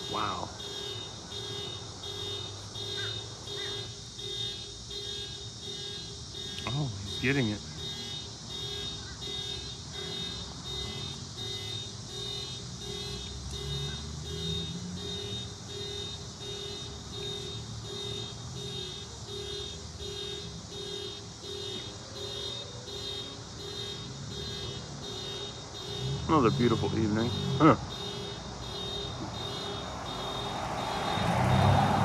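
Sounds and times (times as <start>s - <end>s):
electronic alarm beeping: 0.0s - 31.8s.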